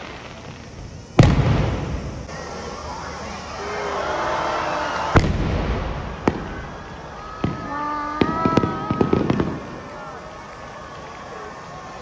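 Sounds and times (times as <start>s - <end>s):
crackling fireworks reports: 0.0s - 12.0s
fireworks bangs: 0.0s - 12.0s.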